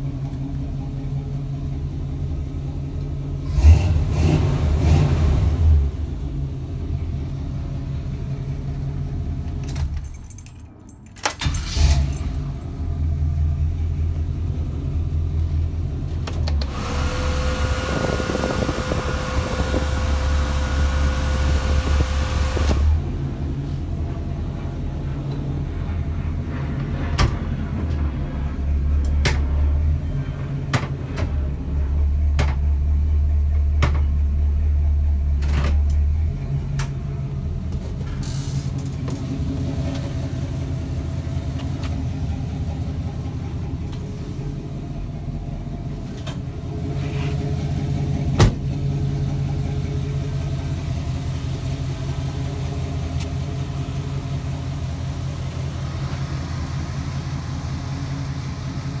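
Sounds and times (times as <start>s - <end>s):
engine idling with deep rumble: 0.0s - 10.6s, 11.4s - 59.0s.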